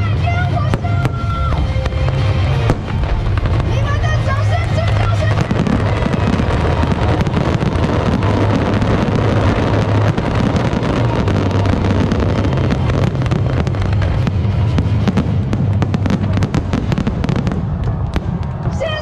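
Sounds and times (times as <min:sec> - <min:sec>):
fireworks booming: 0:00.7 - 0:18.9
sharp firework cracks: 0:01.6 - 0:18.7.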